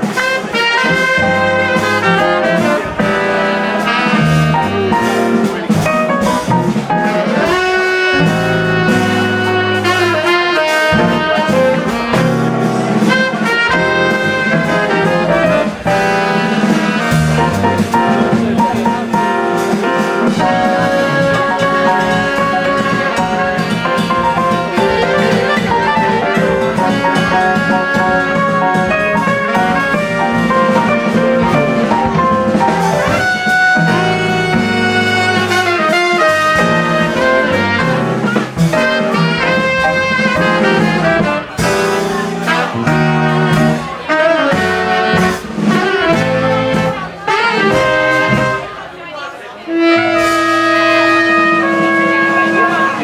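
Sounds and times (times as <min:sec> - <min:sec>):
saxophone: 0:00.0 - 0:48.9, 0:49.5 - 0:53.0
drums: 0:00.0 - 0:53.0
trumpet: 0:00.0 - 0:53.0
low bass notes: 0:00.8 - 0:48.7.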